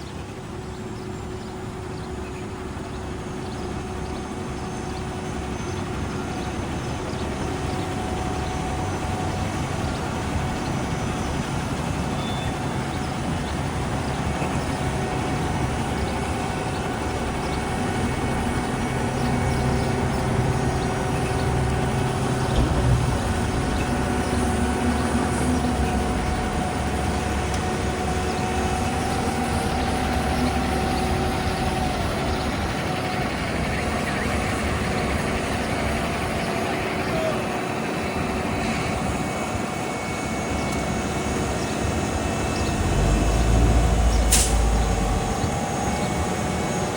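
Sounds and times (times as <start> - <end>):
diesel paving machinery rumbling: 0.0 - 46.9.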